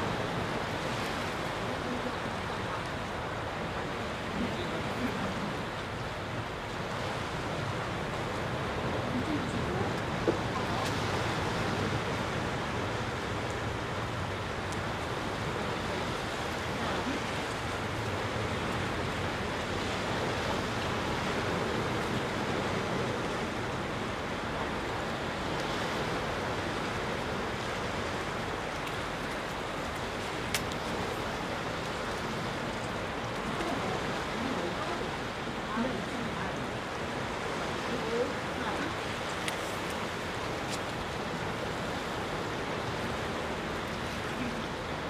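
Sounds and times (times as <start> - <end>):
sea surf washing over rocks: 0.0 - 45.0.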